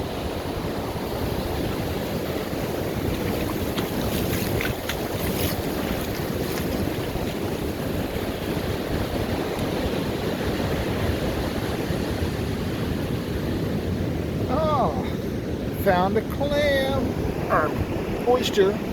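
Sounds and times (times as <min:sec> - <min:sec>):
ocean surf washing onto beach: 0:00.0 - 0:18.9
wind buffeting microphone: 0:00.0 - 0:18.9.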